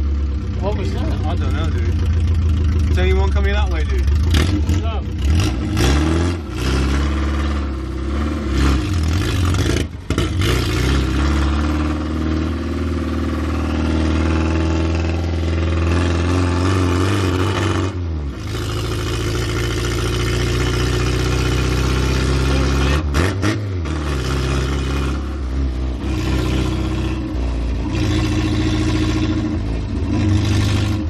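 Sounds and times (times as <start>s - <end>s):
car engine revving: 0.0s - 31.0s
engine coughing and spluttering: 0.6s - 12.6s, 13.4s - 31.0s.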